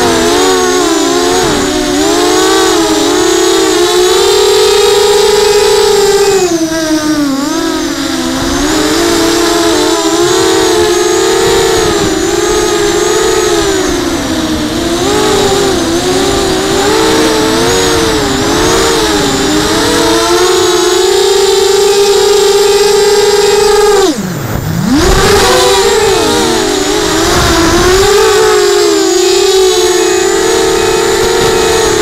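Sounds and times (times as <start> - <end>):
drone motors and propellers whining: 0.0 - 32.0.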